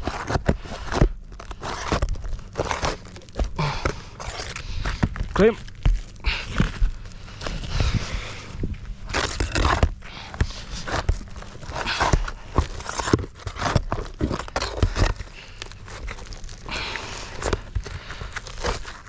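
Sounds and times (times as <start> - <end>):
roof shingle scraping and tearing: 0.0 - 19.0.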